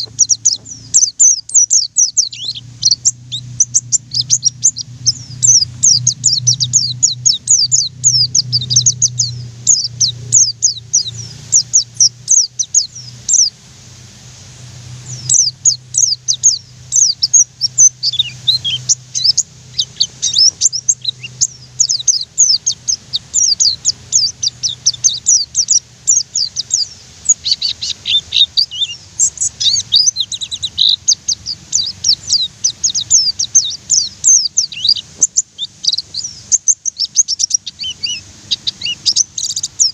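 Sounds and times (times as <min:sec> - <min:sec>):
low steady hum: 0:00.0 - 0:39.9
small bird singing fast runs: 0:00.0 - 0:39.9.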